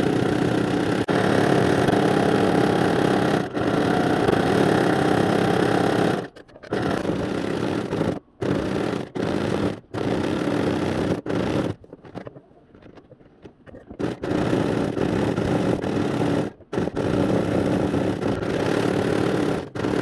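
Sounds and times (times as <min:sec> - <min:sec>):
sewing machine stitching fast: 0:00.0 - 0:11.8, 0:13.9 - 0:20.0.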